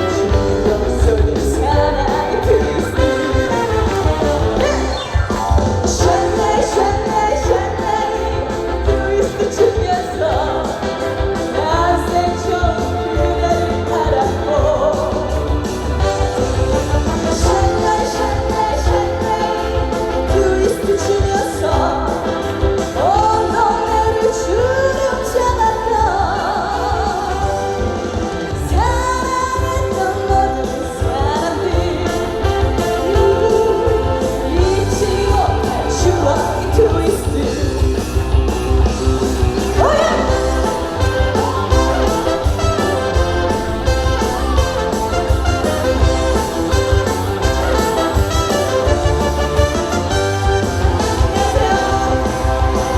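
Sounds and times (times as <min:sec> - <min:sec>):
woman singing: 0:00.0 - 0:05.1, 0:05.8 - 0:38.0, 0:39.5 - 0:48.9, 0:50.5 - 0:52.9
backing track with heavy beat: 0:00.0 - 0:52.9.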